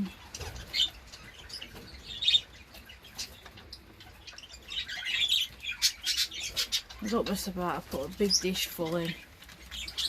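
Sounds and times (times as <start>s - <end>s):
budgerigars chirping: 0.0s - 10.0s.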